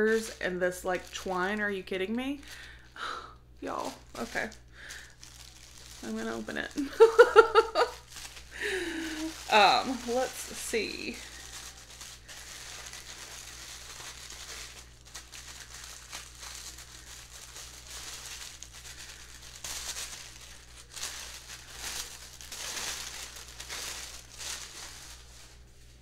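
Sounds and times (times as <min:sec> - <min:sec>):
paper wrapping crinkling and tearing: 0:00.0 - 0:26.0.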